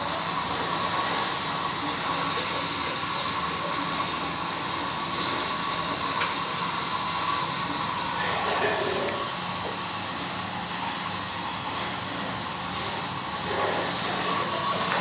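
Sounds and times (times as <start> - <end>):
machine running hiss: 0.0 - 15.0.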